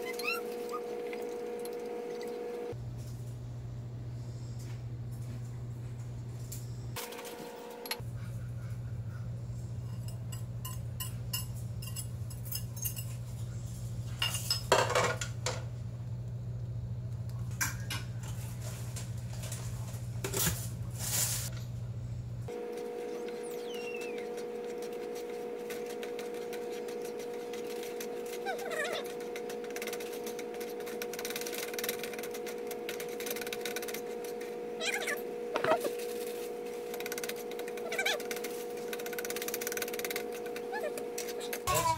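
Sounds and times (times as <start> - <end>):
steady hum: 0.0 - 41.9.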